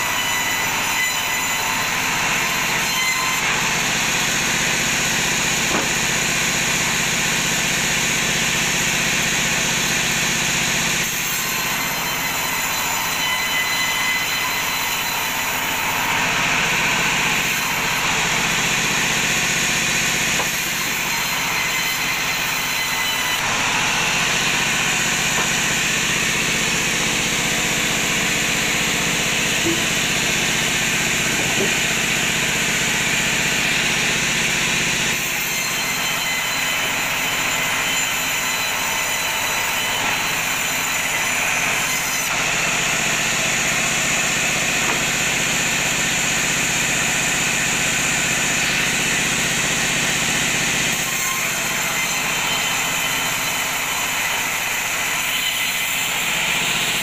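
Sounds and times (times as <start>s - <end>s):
bandsaw cutting a log: 0.0s - 57.0s.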